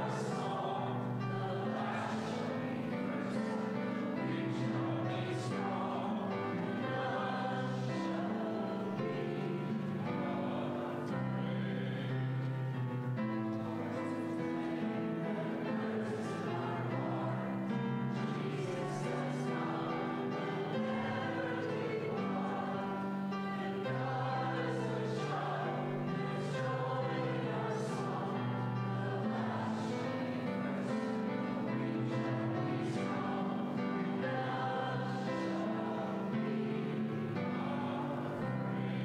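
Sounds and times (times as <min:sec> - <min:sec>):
choir singing a hymn: 0:00.0 - 0:39.0.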